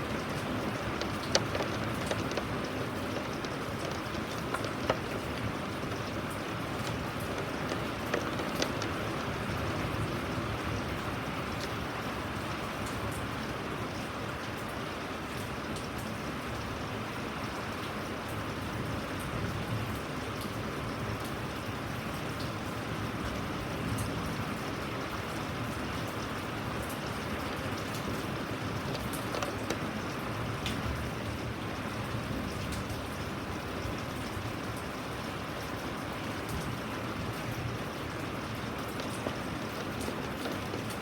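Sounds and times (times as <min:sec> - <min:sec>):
raindrops ticking: 0:00.0 - 0:16.6, 0:23.7 - 0:41.0
steady rain falling: 0:00.0 - 0:41.0.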